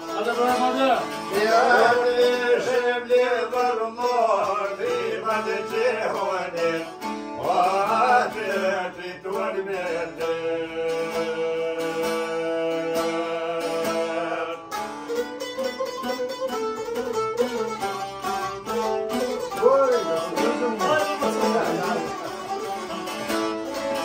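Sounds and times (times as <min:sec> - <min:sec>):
man singing folk song: 0:00.0 - 0:15.2, 0:17.5 - 0:24.0
plucked lutes: 0:00.0 - 0:24.0.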